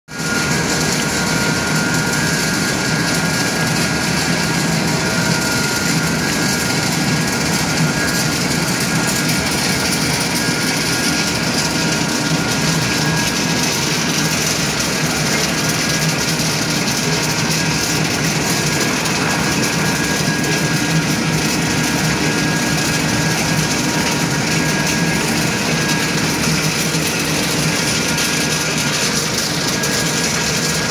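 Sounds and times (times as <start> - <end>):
high mechanical whine: 0.1 - 30.9
pellet mill machinery din: 0.1 - 30.9.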